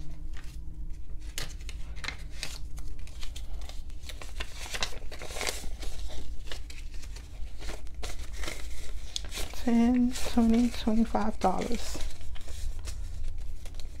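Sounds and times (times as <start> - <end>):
banknotes rustling and snapping: 0.0 - 14.0.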